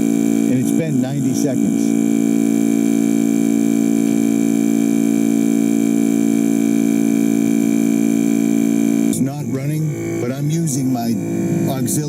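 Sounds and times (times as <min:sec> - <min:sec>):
air compressor droning: 0:00.0 - 0:12.0.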